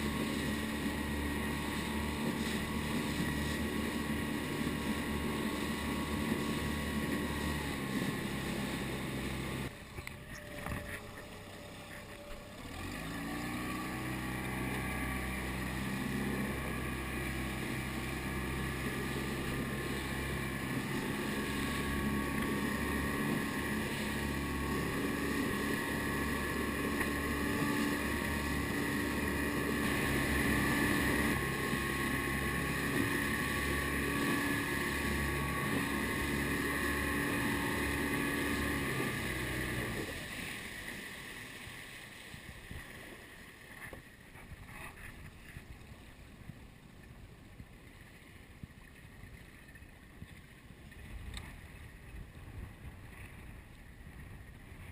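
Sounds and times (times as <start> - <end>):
outboard motor running: 0.0 - 54.9
rushing water: 0.0 - 54.9
wind: 0.0 - 54.9.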